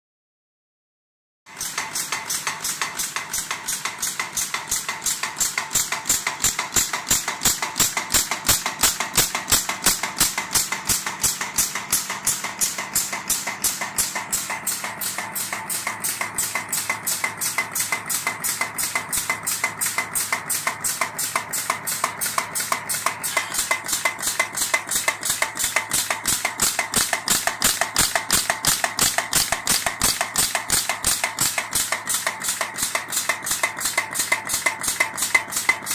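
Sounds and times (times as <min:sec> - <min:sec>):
pin making machine clicking: 0:01.5 - 0:35.9.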